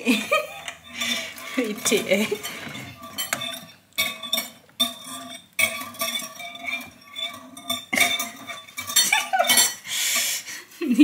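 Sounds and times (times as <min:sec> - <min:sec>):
whisk scraping ceramic bowl: 0:00.0 - 0:10.4.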